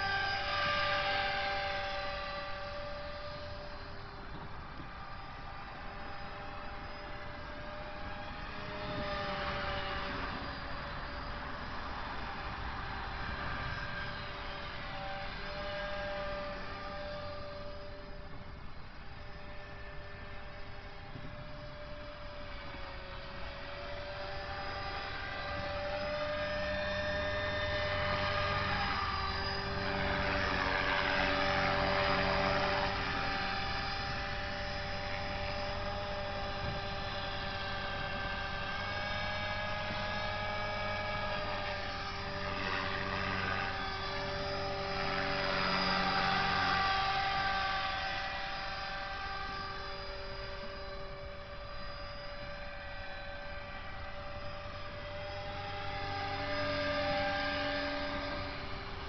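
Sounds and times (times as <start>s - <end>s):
rc helicopter whine: 0.0s - 59.0s.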